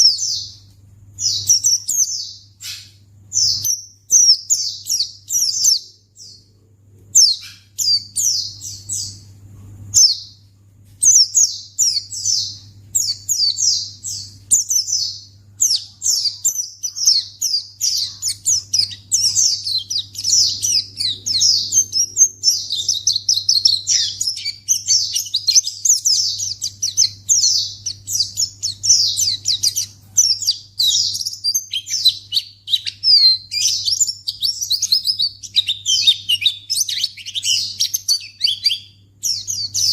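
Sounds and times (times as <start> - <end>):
low steady hum: 0.0 - 39.9
bird singing high chirps: 1.2 - 6.5, 7.2 - 9.3, 9.9 - 10.4, 11.0 - 39.9.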